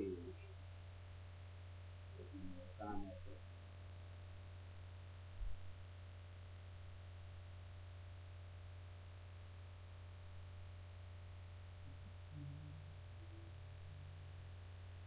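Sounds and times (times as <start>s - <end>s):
faint hiss: 0.0s - 15.0s
steady low hum: 0.0s - 15.0s.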